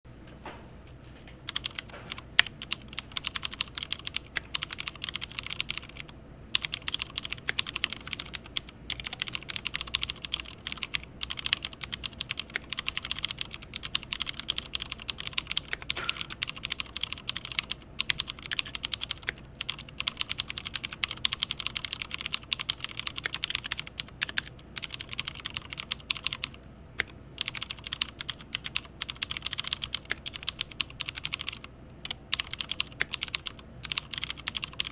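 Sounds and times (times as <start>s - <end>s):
mechanical keyboard typing: 1.5s - 34.9s.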